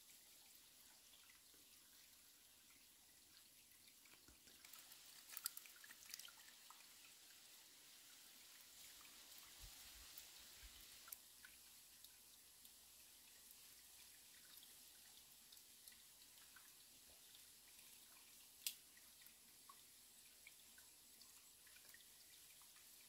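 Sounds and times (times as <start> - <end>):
small water ticks: 0.0 - 23.0
stream trickling and dripping: 0.0 - 23.0.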